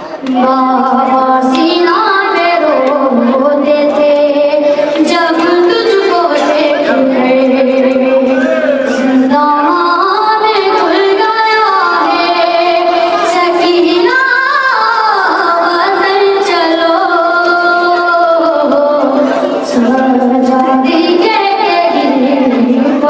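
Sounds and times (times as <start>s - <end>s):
boy singing a mourning lament: 0.0s - 23.0s.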